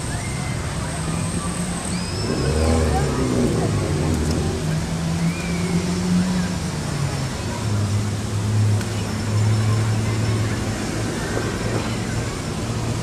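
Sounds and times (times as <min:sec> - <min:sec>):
road traffic rumble: 0:00.0 - 0:13.0
low engine hum: 0:00.5 - 0:13.0.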